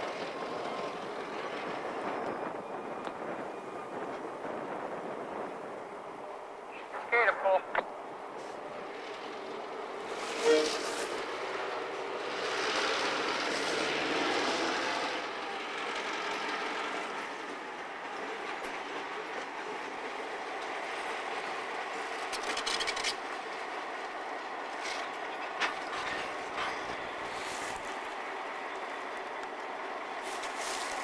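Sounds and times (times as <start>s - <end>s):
steel wheels on rails: 0.0s - 6.7s, 7.8s - 31.0s
diesel locomotive engines running: 0.0s - 31.0s.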